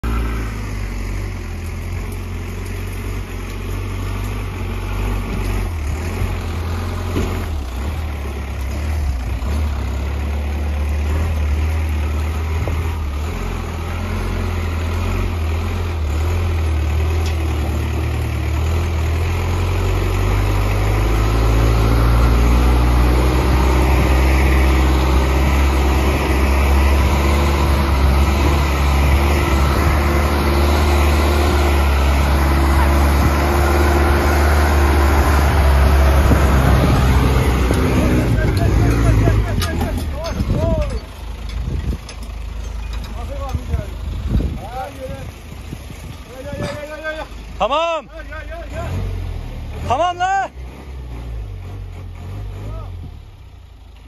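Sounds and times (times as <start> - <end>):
truck engine low note: 0.0 - 54.0.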